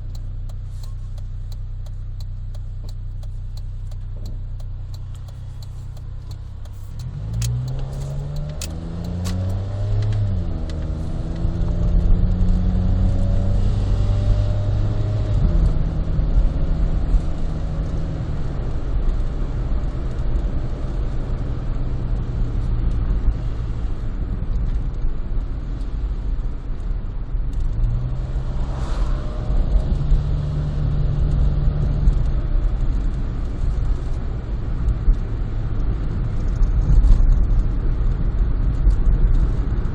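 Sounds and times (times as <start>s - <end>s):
small car engine accelerating: 0.0s - 23.8s, 27.5s - 37.2s.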